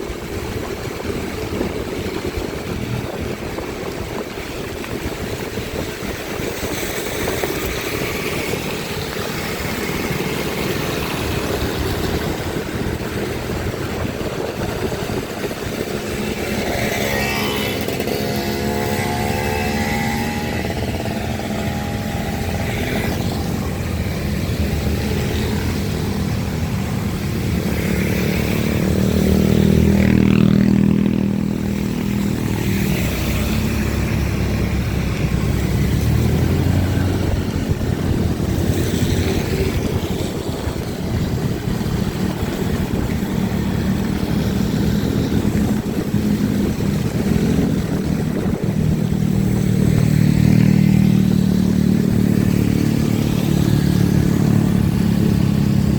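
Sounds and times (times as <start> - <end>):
motorcycle engine: 0.0 - 55.9
rain and wet tyres hiss: 0.0 - 55.9.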